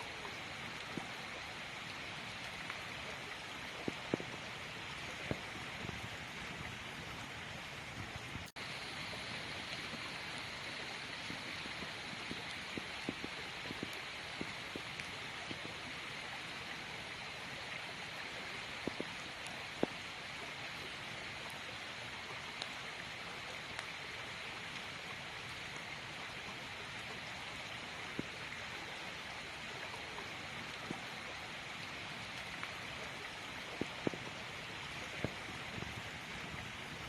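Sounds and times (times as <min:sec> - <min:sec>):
campfire crackling and popping: 0:00.0 - 0:15.9, 0:18.8 - 0:21.2, 0:23.3 - 0:37.0.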